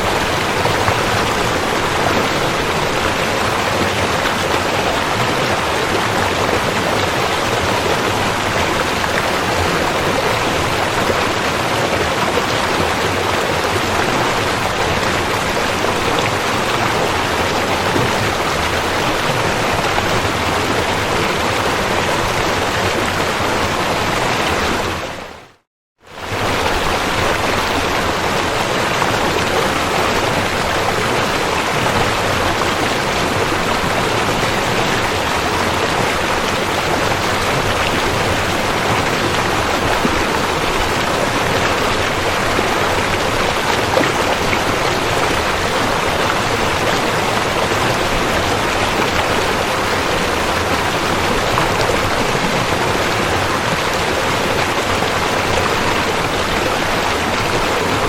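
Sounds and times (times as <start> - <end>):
river water rushing: 0.0 - 25.5, 26.1 - 58.0.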